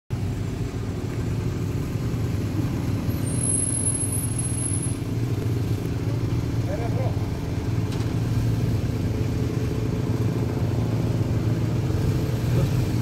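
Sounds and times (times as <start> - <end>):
slow vehicle engines rumbling: 0.1 - 13.0.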